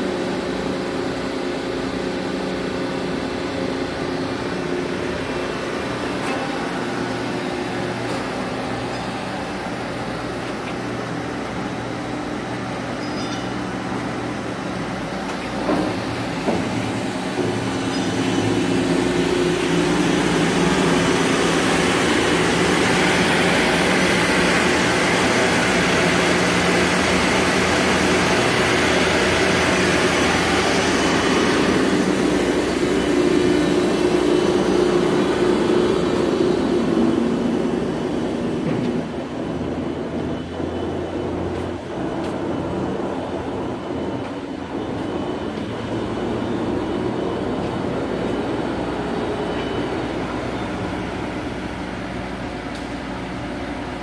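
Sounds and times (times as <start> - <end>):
heavy machinery drone: 0.0 - 54.0.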